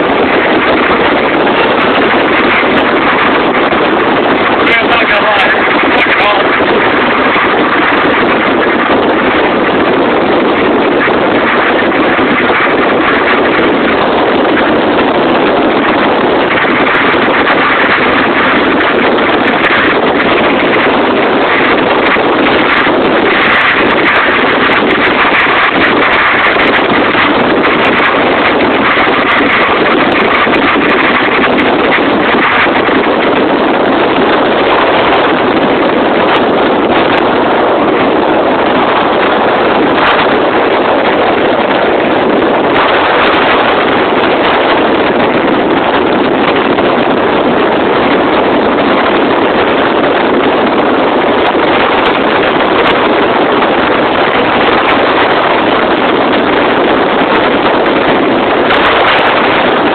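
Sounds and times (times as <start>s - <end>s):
wind blowing across microphone: 0.0s - 59.9s.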